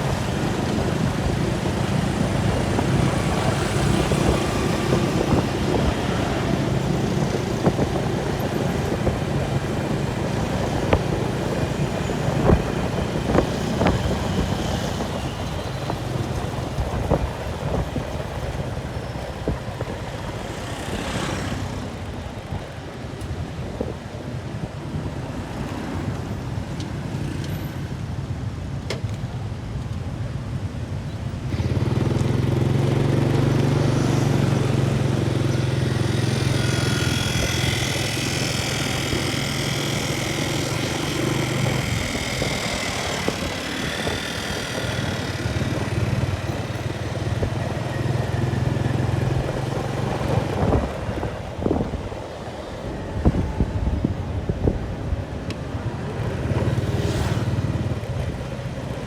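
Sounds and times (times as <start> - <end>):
motor engine humming: 0.0 - 22.6, 31.5 - 59.0.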